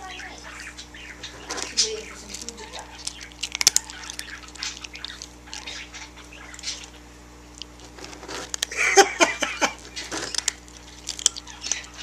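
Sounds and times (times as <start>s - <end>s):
cat crunching dry kibble: 1.2s - 12.0s.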